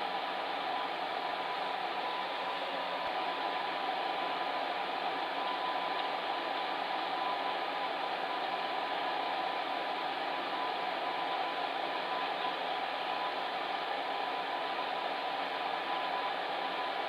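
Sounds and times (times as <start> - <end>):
faint hum: 0.0 - 17.0
fan heater blowing air: 0.0 - 17.0.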